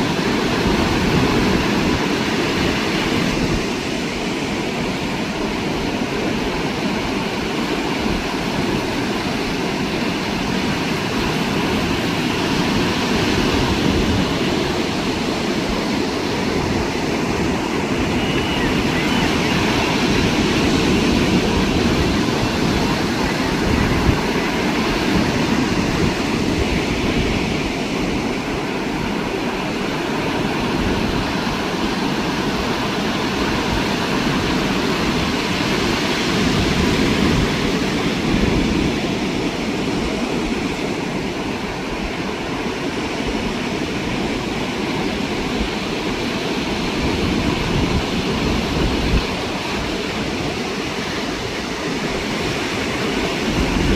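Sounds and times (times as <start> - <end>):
ocean surf on sandy beach: 0.0 - 53.9.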